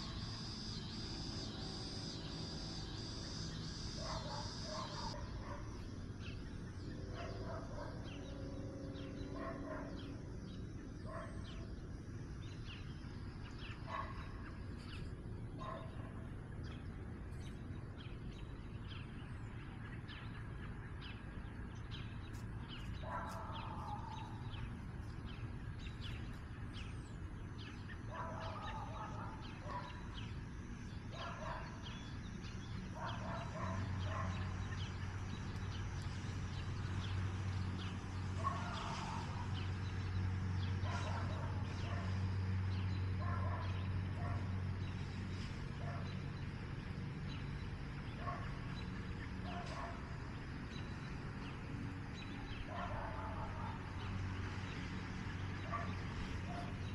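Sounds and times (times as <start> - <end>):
low steady hum: 0.0 - 54.8
small birds chirping: 0.0 - 56.9.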